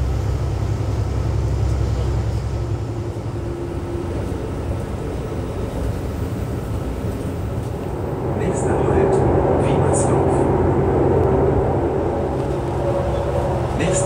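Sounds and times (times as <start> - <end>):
railcar engine and wheels rumbling: 0.0 - 14.0.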